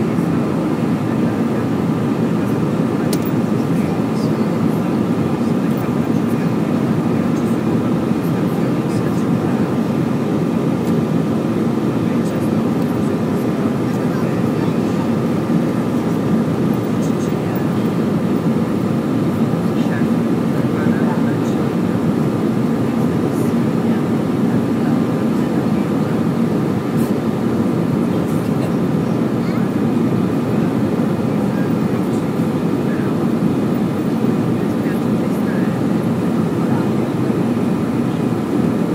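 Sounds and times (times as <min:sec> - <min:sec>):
engine and airflow rush: 0:00.0 - 0:38.9
faint steady whine: 0:00.0 - 0:38.9.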